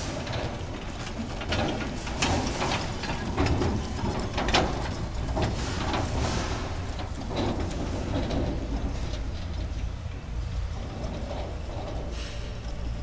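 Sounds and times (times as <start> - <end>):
trailer knocks and rattles: 0.0 - 13.0
trailer rolling over paving: 0.0 - 13.0.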